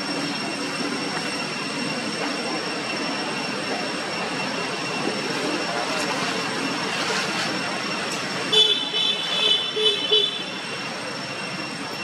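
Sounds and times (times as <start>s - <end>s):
constant high-pitched tones: 0.0s - 12.0s
continuous rushing hum: 0.0s - 12.0s.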